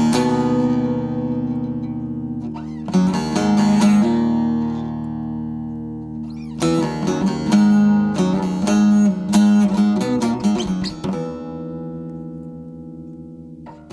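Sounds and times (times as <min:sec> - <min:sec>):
acoustic guitar chords: 0:00.0 - 0:13.9.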